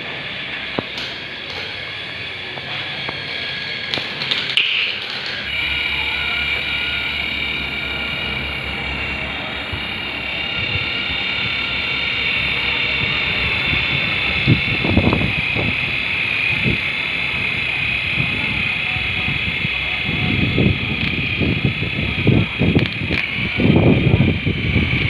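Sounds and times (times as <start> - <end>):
toy helicopter motor whine: 0.0 - 25.0.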